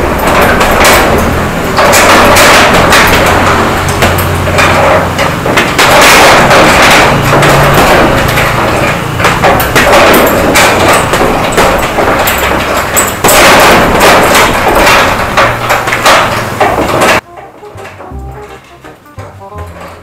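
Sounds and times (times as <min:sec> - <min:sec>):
gloves punching heavy bag: 0:00.0 - 0:17.2.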